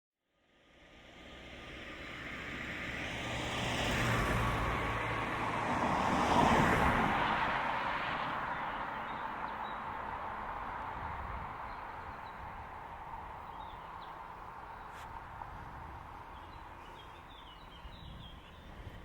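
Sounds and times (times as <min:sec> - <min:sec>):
vehicle passing by: 0:00.8 - 0:19.0.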